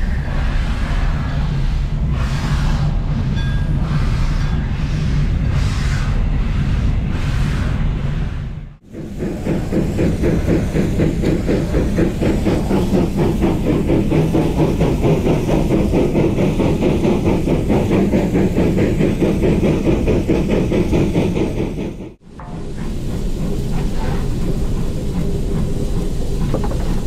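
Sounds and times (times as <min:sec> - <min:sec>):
steam exhaust chuffing: 0:00.0 - 0:27.0
steam hissing: 0:00.0 - 0:27.0.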